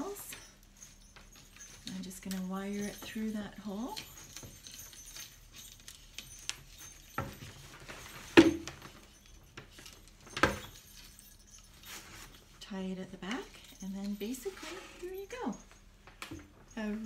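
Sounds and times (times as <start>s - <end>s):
small bells jingling: 0.0s - 17.0s.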